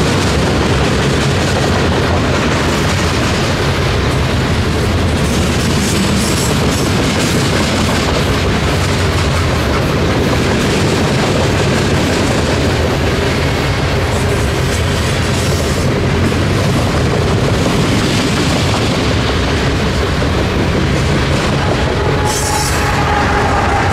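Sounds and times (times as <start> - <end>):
train cars rattling: 0.0 - 23.9
train wheels on rails: 0.0 - 23.9.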